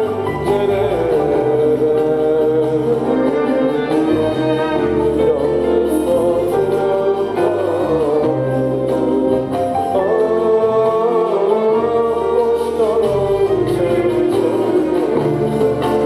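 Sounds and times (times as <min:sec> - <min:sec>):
bass line: 0:00.0 - 0:16.0.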